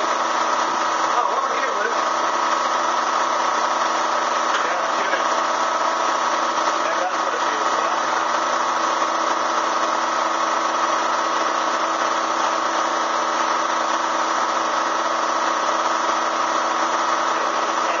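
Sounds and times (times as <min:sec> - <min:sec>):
vacuum motor droning: 0:00.0 - 0:18.0.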